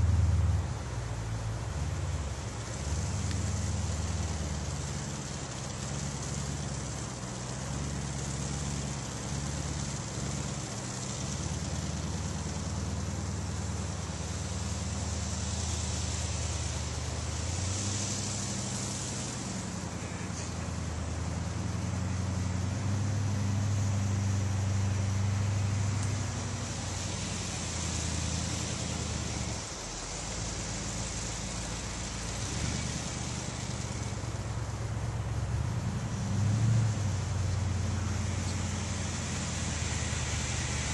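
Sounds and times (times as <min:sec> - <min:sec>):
buggy engine rumbling: 0:00.0 - 0:40.9.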